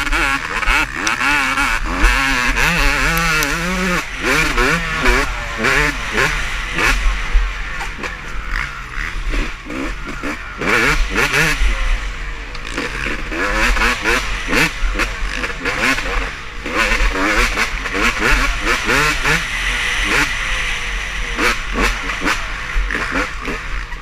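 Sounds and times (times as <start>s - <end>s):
motocross bikes revving past: 0.0s - 24.0s.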